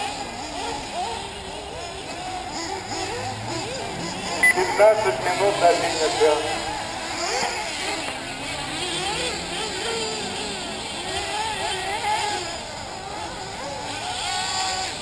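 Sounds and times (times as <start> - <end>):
rc buggy engines buzzing: 0.0 - 15.0.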